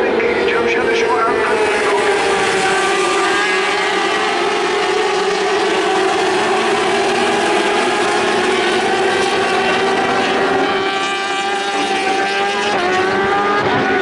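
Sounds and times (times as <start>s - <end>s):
racing motorcycles at high revs: 0.0s - 14.0s.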